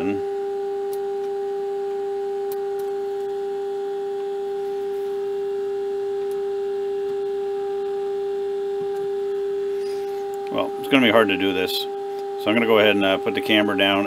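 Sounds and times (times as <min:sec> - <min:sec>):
steady test tone from speaker: 0:00.0 - 0:14.0.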